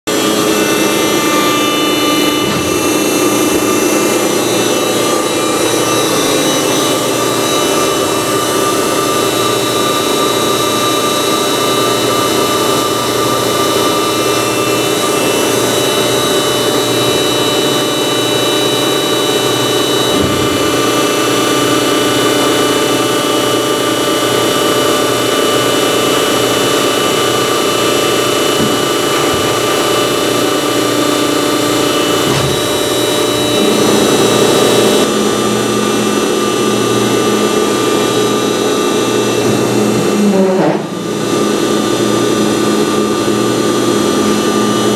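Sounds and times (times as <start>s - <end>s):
constant machine whine: 0.0s - 44.9s
hydraulic power unit humming: 0.0s - 44.9s.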